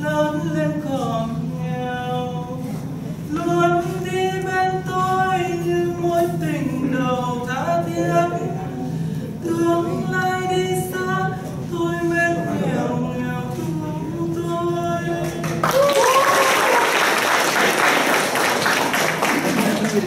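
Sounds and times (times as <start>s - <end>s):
person singing slow melody: 0.0s - 16.1s.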